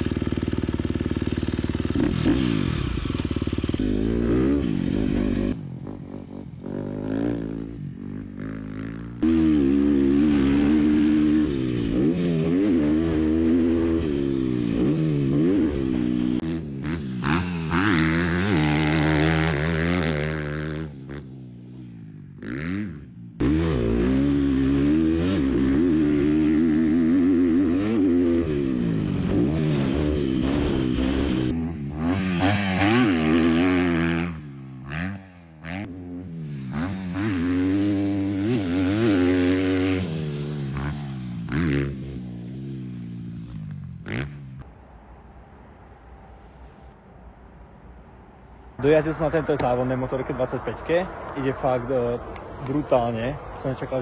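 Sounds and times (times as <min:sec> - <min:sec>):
motocross bike engine revving: 0:00.0 - 0:44.6.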